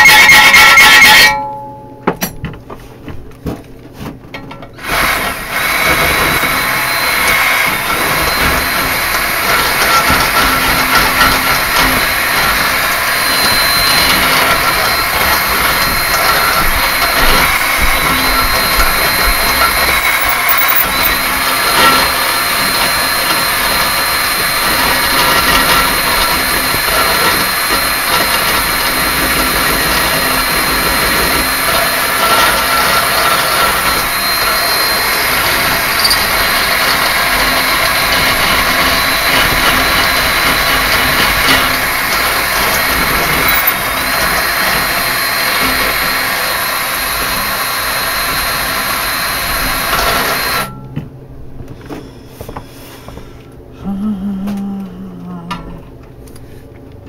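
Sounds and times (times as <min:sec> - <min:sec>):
small motor whining: 0:04.8 - 0:50.7.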